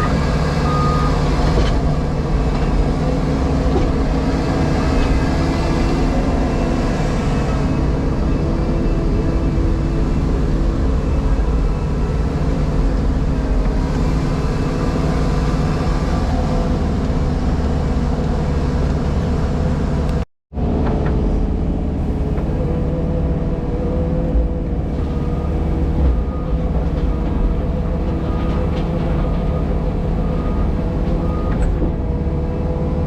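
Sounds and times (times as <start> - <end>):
diesel engine and hydraulics droning: 0.0 - 33.0.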